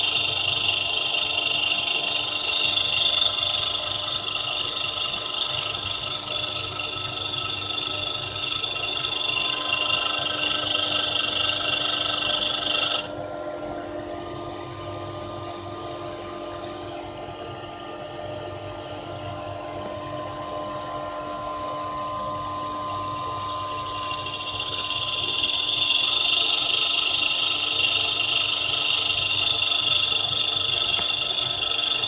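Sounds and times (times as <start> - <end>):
electric motor hum with high whine: 0.0 - 32.0.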